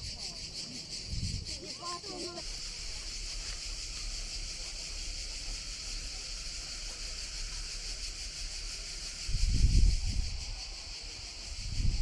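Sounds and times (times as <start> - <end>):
cicadas chorusing: 0.0 - 12.0.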